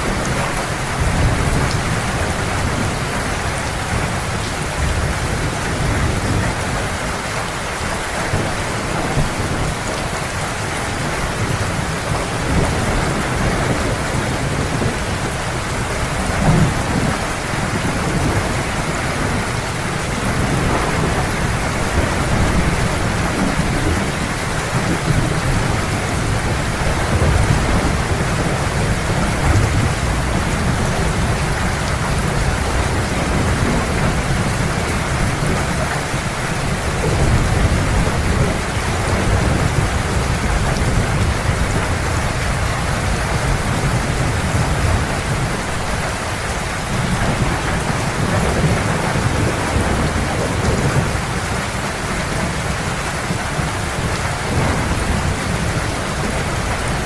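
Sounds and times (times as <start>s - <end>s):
low rumble of thunder: 0.0s - 7.2s, 8.0s - 57.0s
heavy rain: 0.0s - 57.0s.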